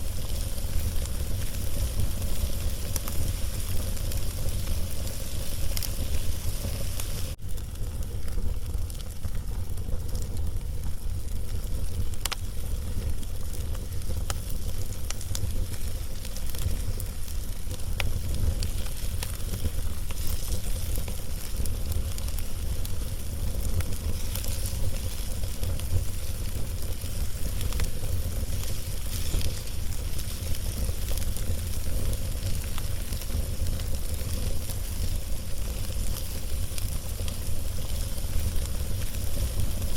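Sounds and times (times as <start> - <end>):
fire crackles and pops: 0.0 - 39.9.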